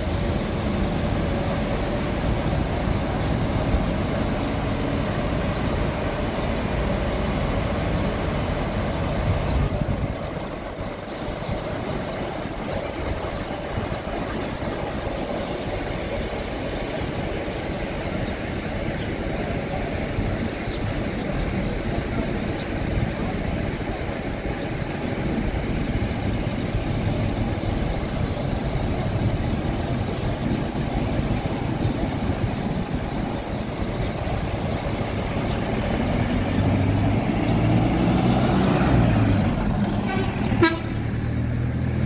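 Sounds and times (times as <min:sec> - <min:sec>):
bus engine rumbling: 0:00.0 - 0:42.0.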